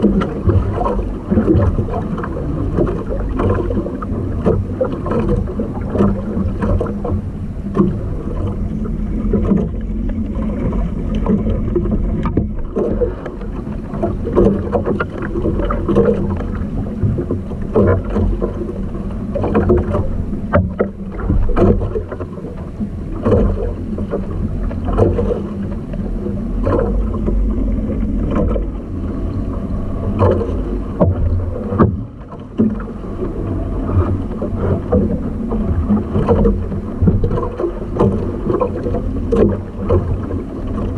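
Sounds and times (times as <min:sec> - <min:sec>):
knocks in boat: 0:00.0 - 0:40.9
water slapping against hull: 0:00.0 - 0:40.9.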